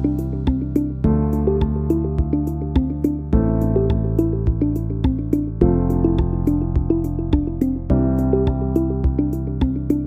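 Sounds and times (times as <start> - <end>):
repeating keyboard melody: 0.0 - 10.0.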